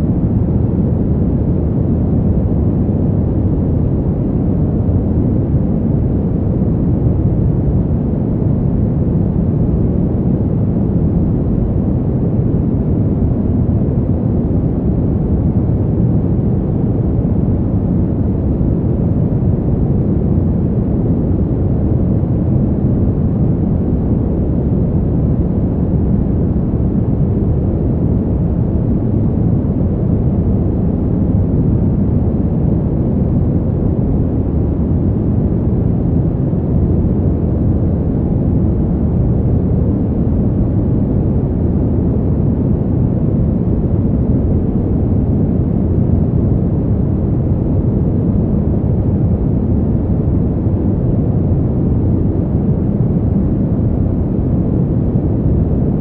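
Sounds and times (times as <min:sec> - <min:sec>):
steady low wind: 0:00.0 - 0:56.0.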